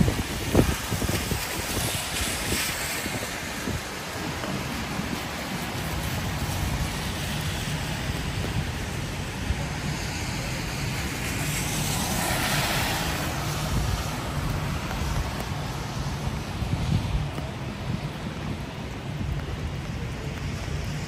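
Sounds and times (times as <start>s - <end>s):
car tyres hissing on wet road: 0.0s - 21.0s
city traffic rumble: 0.0s - 21.0s
rain on an umbrella: 0.0s - 21.0s.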